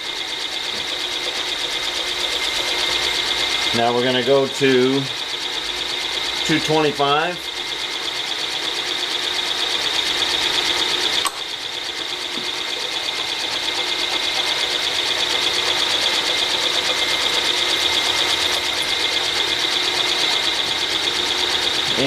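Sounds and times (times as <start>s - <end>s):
drill cutting metal: 0.0s - 22.0s
milling spindle high-pitched whine: 0.0s - 22.0s.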